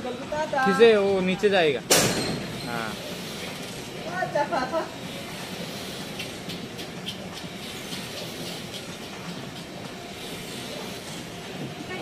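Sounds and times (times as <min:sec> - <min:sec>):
carousel mechanism rumbling: 0:00.0 - 0:12.0.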